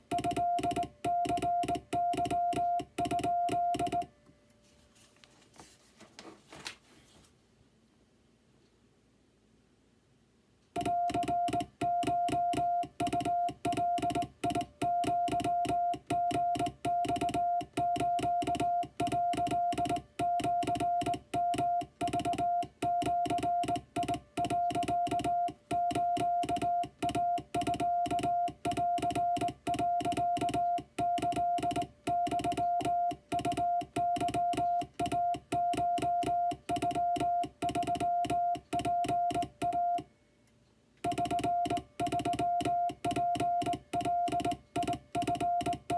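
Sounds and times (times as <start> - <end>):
morse code beeps: 0.0 - 4.1, 10.8 - 40.1, 41.0 - 45.9.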